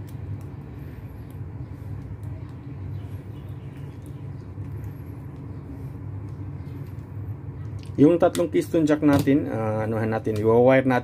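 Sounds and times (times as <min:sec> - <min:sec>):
wire clicks and rustles: 0:00.0 - 0:10.6
low background rumble: 0:00.0 - 0:11.0.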